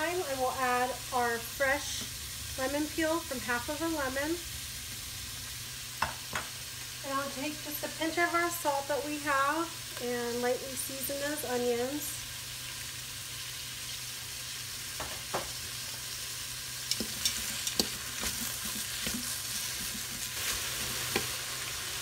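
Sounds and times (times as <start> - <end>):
onions sizzling in oil: 0.0 - 22.0.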